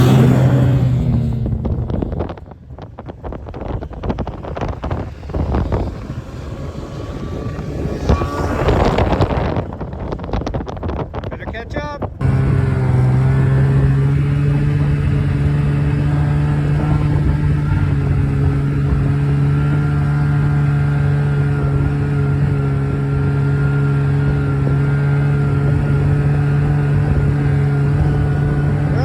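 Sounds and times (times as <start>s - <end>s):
snowmobile engine running: 0.0s - 11.2s, 12.2s - 29.0s.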